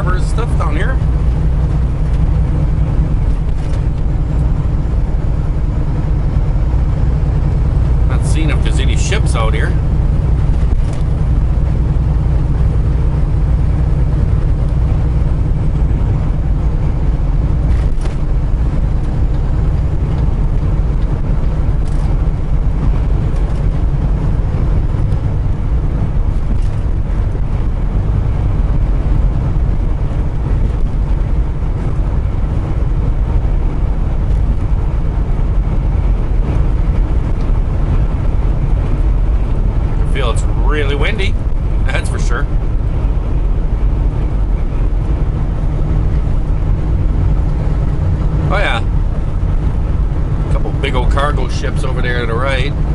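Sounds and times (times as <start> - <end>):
diesel engine drone: 0.0 - 52.9
road noise: 0.0 - 52.9.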